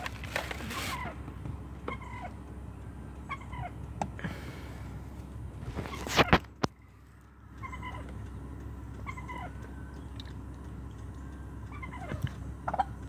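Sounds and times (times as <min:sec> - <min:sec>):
wild turkey calling: 0:00.0 - 0:04.6, 0:06.2 - 0:13.0.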